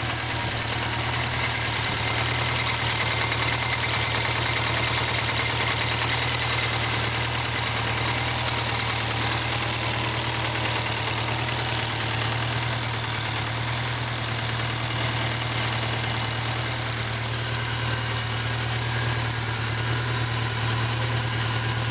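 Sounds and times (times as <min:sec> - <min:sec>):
diesel tractor engine running: 0:00.0 - 0:21.9.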